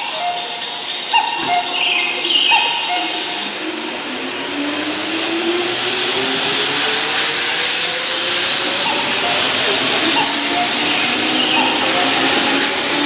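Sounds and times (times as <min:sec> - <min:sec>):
rush of train cars passing: 0:00.0 - 0:13.0
electric train motors whining: 0:02.1 - 0:13.0.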